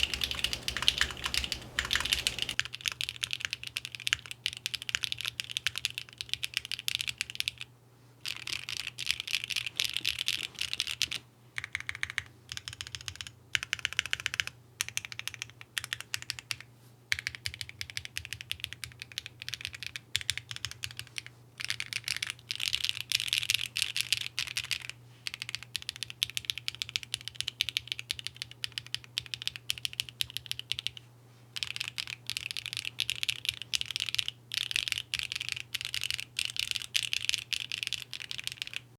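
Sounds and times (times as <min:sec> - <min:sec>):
mechanical keyboard typing: 0:00.0 - 0:07.6, 0:08.3 - 0:31.0, 0:31.6 - 0:38.9.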